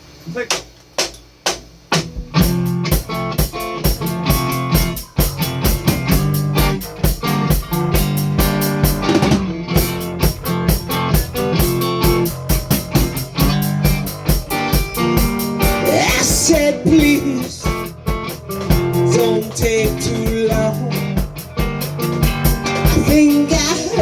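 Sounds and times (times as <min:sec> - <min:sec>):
drum hits: 0:00.4 - 0:24.0
rock band playing: 0:01.9 - 0:24.0.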